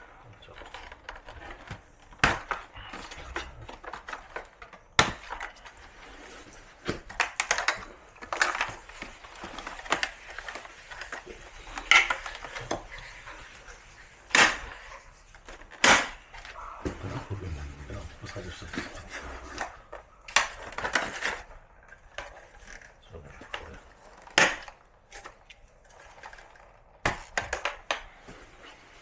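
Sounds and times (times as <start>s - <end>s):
plastic parts clicking and rattling: 0.0s - 29.0s.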